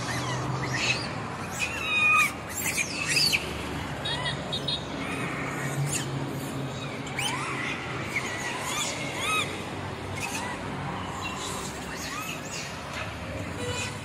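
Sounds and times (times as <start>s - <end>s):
high arching animal calls: 0.0s - 14.0s.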